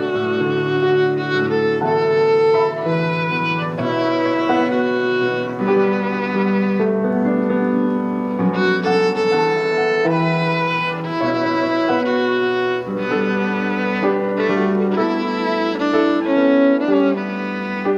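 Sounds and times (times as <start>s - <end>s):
violin melody with vibrato: 0.0s - 17.9s.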